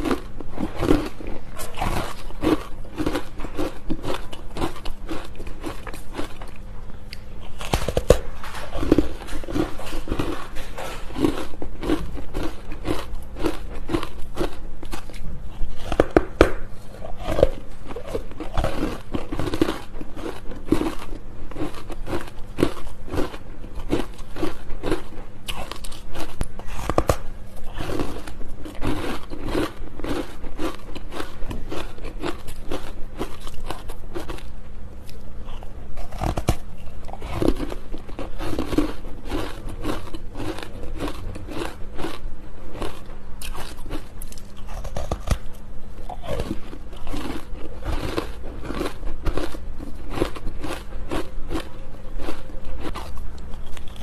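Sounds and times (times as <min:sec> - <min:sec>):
ice crunching being chewed: 0:00.0 - 0:54.0.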